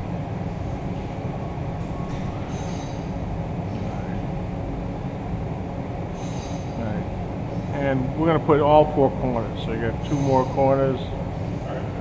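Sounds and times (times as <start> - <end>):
machine shop equipment hum: 0.0 - 12.0.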